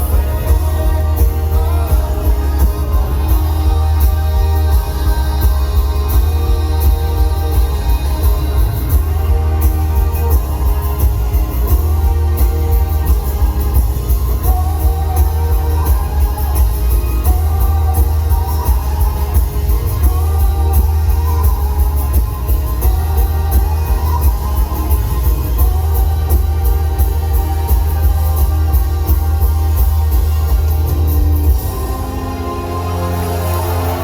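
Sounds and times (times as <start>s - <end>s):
rock band playing live: 0.0s - 34.0s.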